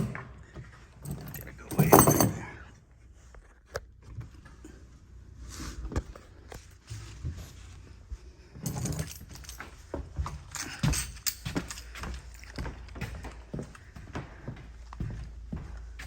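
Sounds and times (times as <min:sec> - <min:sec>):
footsteps in an attic: 0:00.0 - 0:01.7, 0:02.8 - 0:16.0.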